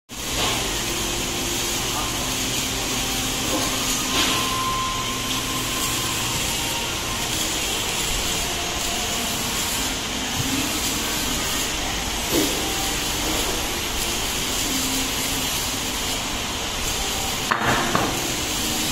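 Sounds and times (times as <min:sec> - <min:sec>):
machine hum and hiss: 0:00.1 - 0:18.9.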